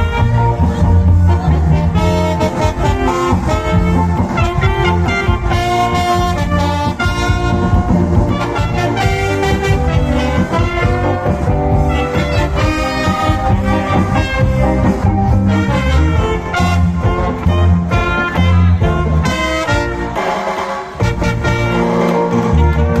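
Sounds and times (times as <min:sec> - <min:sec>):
brass-led dance music: 0:00.0 - 0:23.0.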